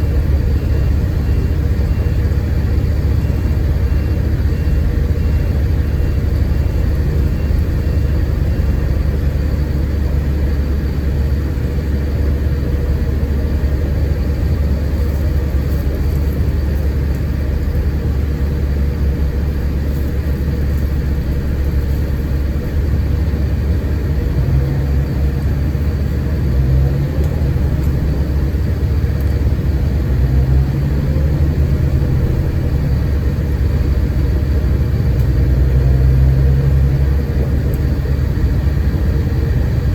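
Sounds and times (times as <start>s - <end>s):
diesel engine rumble: 0.0s - 39.9s
road noise: 0.0s - 39.9s.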